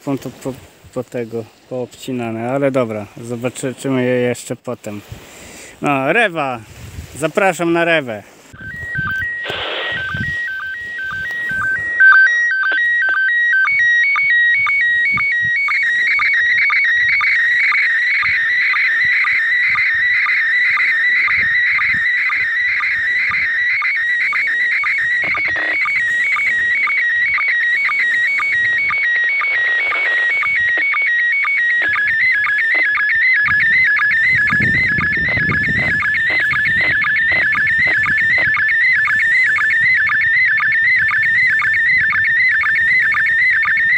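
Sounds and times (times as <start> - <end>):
warbling picture signal tones: 7.5 - 43.9.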